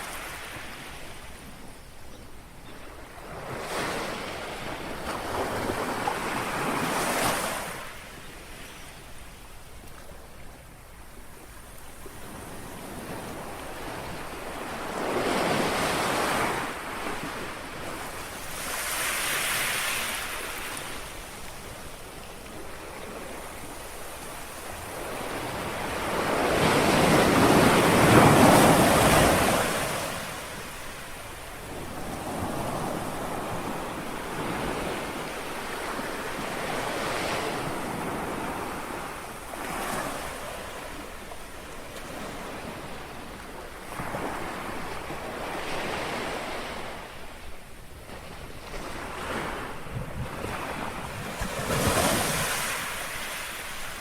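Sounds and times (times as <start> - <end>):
small waves lapping on shore: 3.2 - 54.0.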